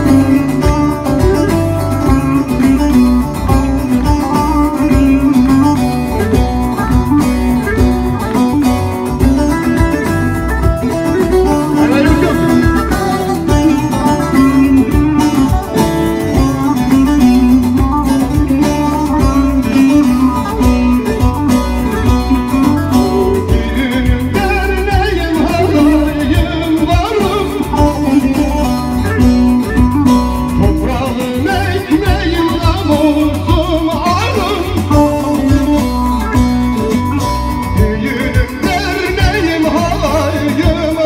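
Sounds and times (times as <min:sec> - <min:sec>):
man singing: 0:00.0 - 0:06.6, 0:11.2 - 0:29.9, 0:30.5 - 0:41.0
keyboard accompaniment: 0:00.0 - 0:41.0
plucked string instrument: 0:00.0 - 0:41.0.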